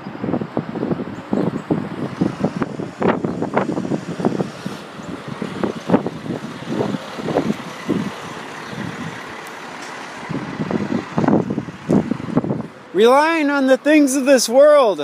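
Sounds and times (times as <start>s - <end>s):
vehicle passing on road: 0.0s - 14.3s.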